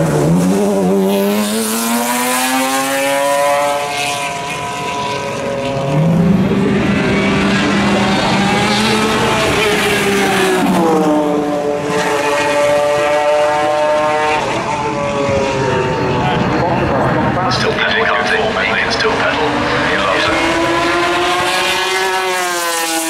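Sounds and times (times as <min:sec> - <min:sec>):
racing car engine accelerating: 0:00.0 - 0:23.0.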